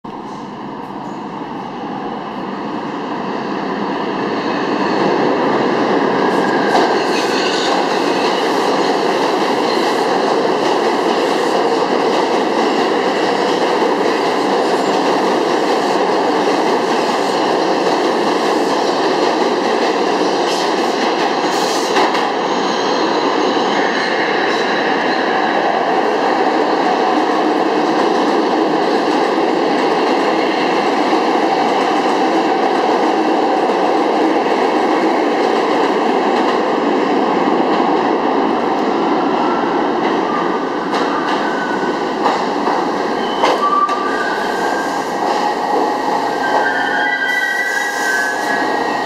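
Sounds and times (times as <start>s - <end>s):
subway train wheels rumbling on rails: 0.0s - 49.0s.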